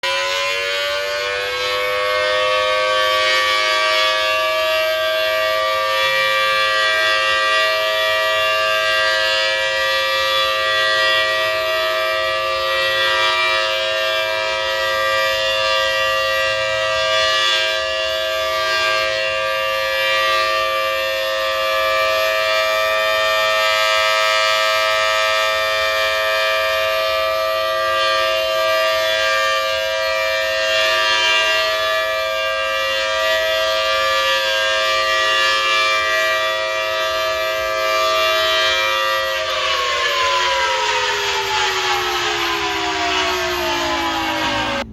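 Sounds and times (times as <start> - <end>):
tornado siren wailing: 0.0 - 44.9.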